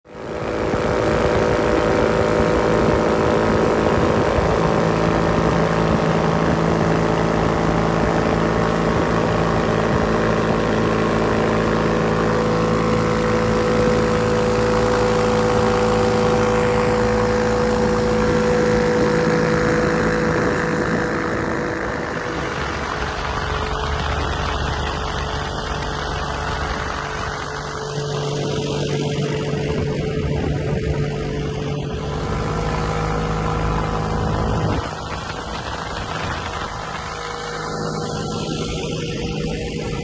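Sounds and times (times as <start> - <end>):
ultralight aircraft engine running: 0.0 - 40.0.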